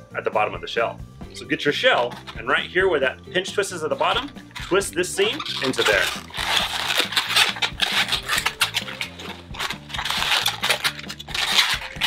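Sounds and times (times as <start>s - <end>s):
background music with bass line: 0.0s - 12.0s
balloons squeaking and rubbing: 1.8s - 12.0s.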